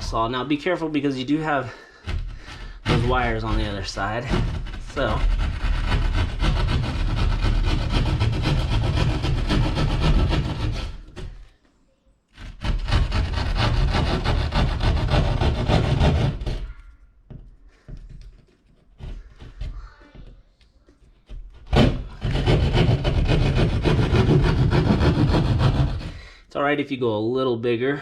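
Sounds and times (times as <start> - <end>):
hand saw rasping through drywall: 0.7 - 11.5, 12.3 - 16.8, 17.7 - 20.0, 21.2 - 26.4.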